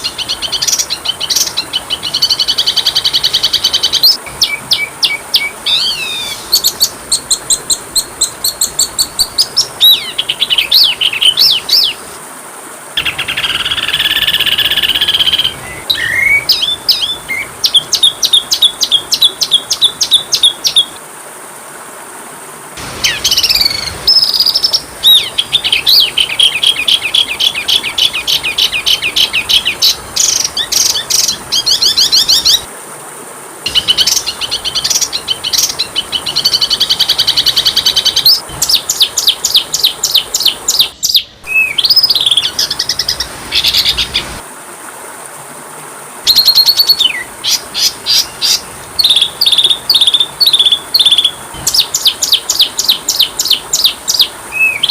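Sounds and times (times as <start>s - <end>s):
bird singing: 0.0s - 12.0s, 13.0s - 21.0s, 23.0s - 32.7s, 33.7s - 44.2s, 46.3s - 54.9s.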